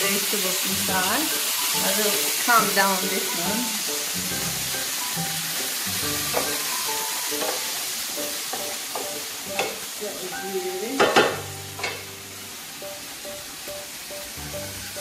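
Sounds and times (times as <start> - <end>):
meat sizzling in a skillet: 0.0 - 15.0.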